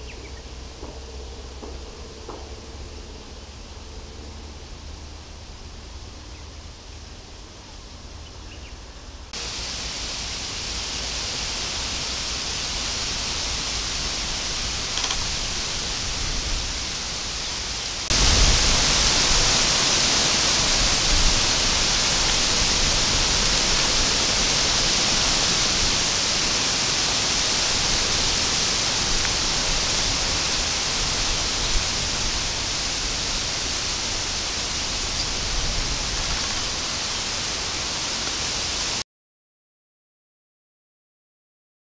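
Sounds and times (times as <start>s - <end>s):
wind blowing through trees: 0.0s - 39.0s.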